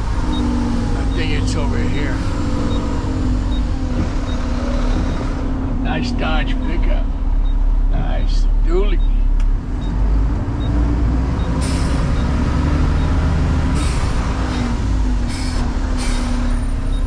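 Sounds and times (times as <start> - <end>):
diesel truck engine: 0.0 - 17.0
road noise: 0.0 - 17.0.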